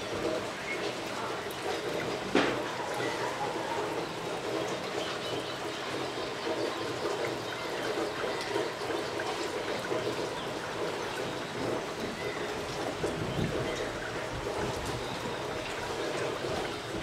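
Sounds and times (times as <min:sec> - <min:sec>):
running water trickling: 0:00.0 - 0:17.0.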